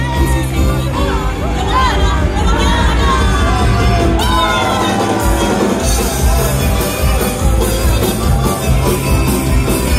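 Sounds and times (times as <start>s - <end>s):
live band playing loud music: 0.0s - 9.9s.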